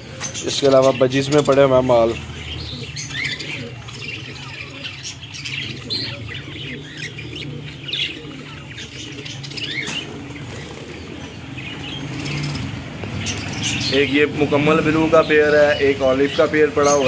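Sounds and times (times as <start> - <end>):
budgerigars chirping and chattering: 0.0 - 17.0.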